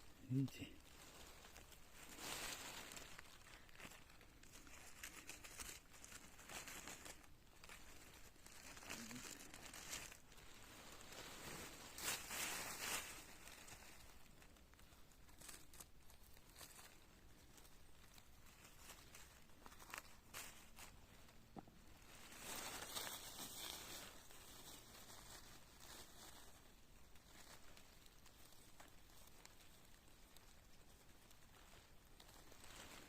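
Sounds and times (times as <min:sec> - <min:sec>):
rustling and crinkling of forest litter: 0:00.0 - 0:33.0.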